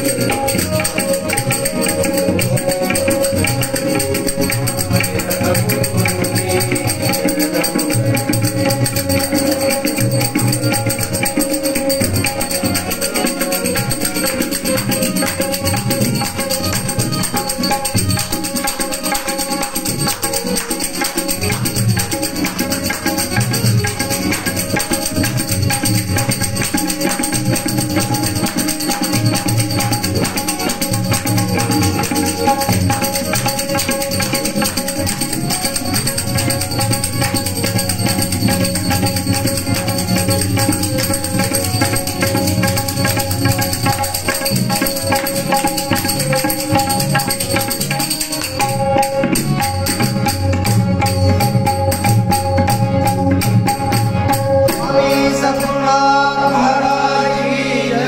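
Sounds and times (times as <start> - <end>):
hand cymbals jingling: 0.0 - 55.8
harmonium holding notes: 0.0 - 58.0
tabla rhythm: 0.0 - 58.0.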